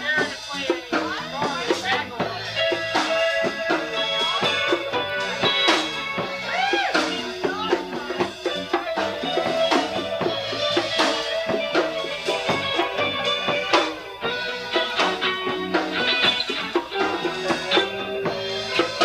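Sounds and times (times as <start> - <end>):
bass guitar: 0.0 - 19.0
bongos: 0.0 - 19.0
drum kit: 0.0 - 19.0
electric guitar: 0.0 - 19.0
live band playing: 0.0 - 19.0.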